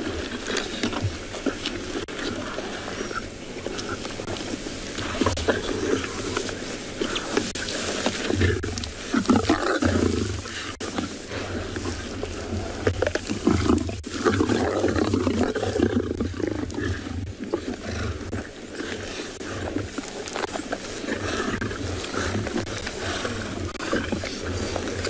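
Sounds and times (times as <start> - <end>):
lions growling: 0.0 - 25.0.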